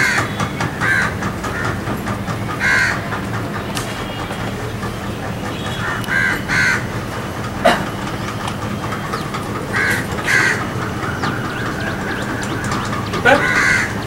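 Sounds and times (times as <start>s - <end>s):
bird calling: 0.0s - 14.0s
steady low hum: 0.0s - 14.0s.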